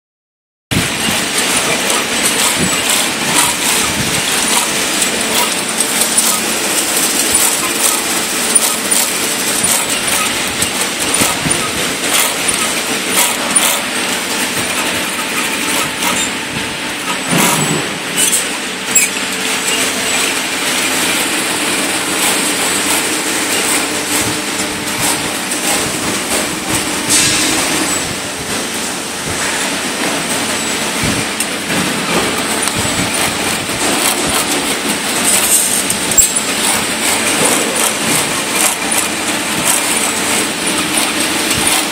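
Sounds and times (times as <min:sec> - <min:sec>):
sewing machines clattering: 0:00.7 - 0:41.9.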